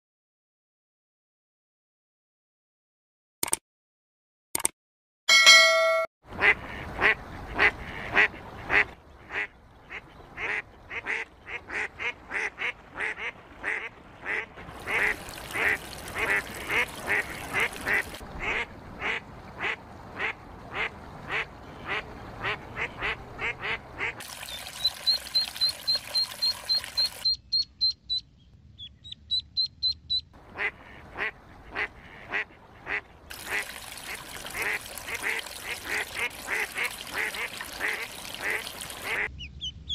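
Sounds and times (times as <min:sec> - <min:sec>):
ducks calling: 0:06.4 - 0:28.2, 0:28.8 - 0:39.9.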